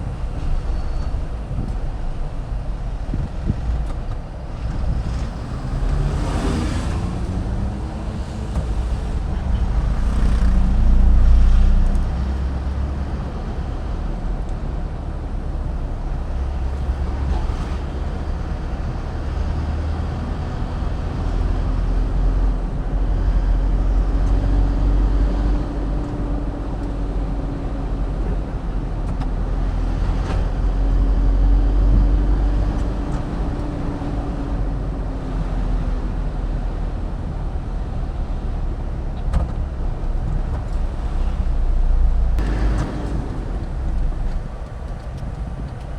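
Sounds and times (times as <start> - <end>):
car engine rumble: 0.0 - 45.9
road noise: 0.0 - 45.9.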